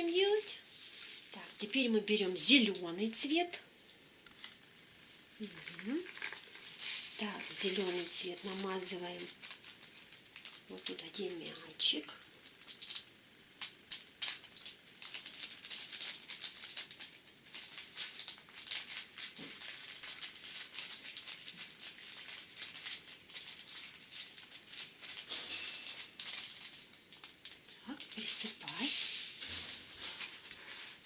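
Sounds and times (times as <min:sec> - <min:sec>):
tiny beads rattling: 0:05.5 - 0:30.6.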